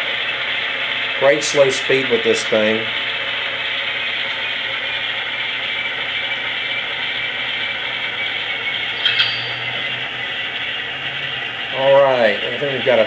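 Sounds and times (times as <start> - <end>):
engine sound from small speaker: 0.0 - 13.0.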